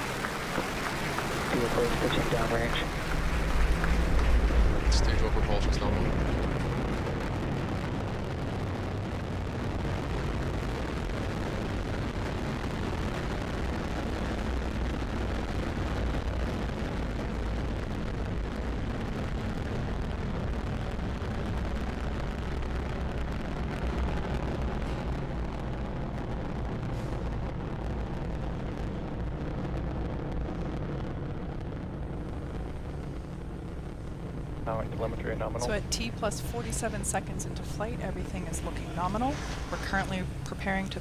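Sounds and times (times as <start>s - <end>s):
rocket engines rumbling: 0.0s - 41.0s.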